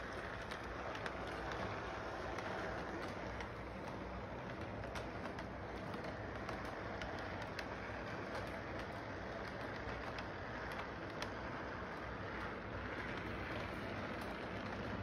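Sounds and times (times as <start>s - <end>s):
model train rumbling on track: 0.0s - 15.0s
wheels clicking on rail joints: 0.0s - 15.0s.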